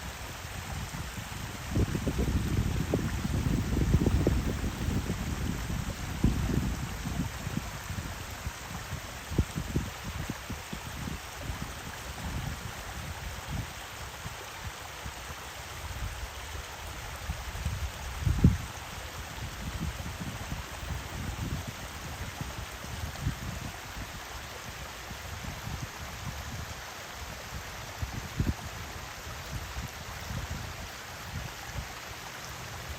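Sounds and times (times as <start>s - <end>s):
waterfall flowing: 0.0s - 32.9s.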